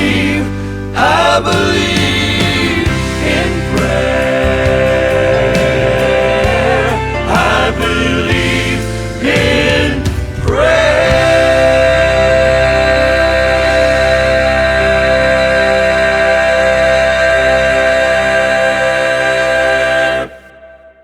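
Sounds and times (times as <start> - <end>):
band accompaniment: 0.0 - 20.3
male quartet singing: 0.0 - 20.7.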